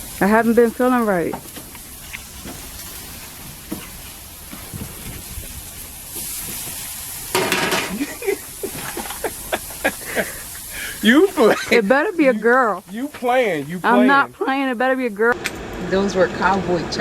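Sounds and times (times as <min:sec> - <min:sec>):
meat sizzling: 0:00.0 - 0:15.4.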